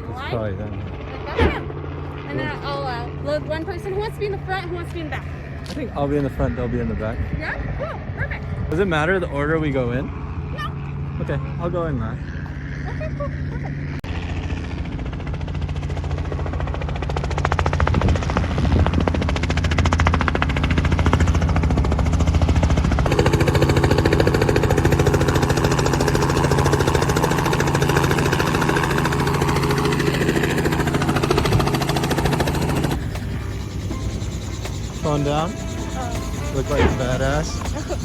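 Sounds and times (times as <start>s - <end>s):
helicopter engine hum: 0.0s - 38.0s
helicopter rotor blades chopping: 0.0s - 38.0s.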